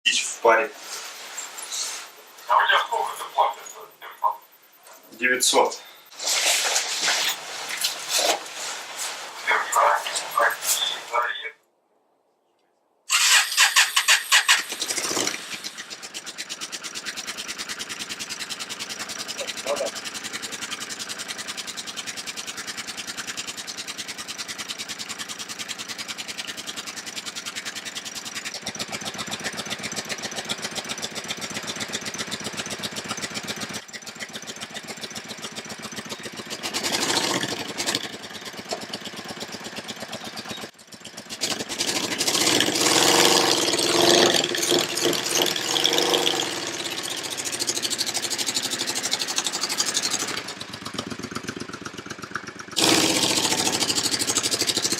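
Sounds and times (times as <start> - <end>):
motorcycle engine idling and revving: 0.0 - 11.3, 13.1 - 54.9.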